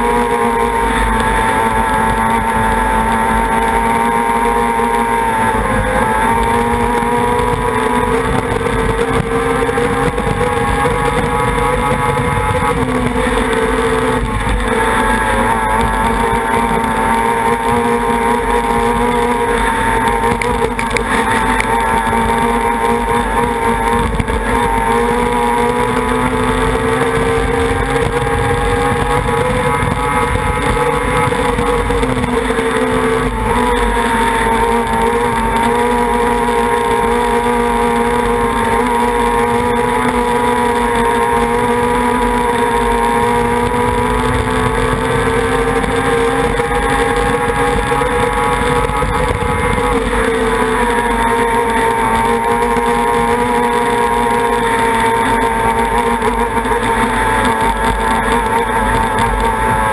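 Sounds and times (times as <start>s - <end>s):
outboard engine at high speed: 0.0s - 59.9s.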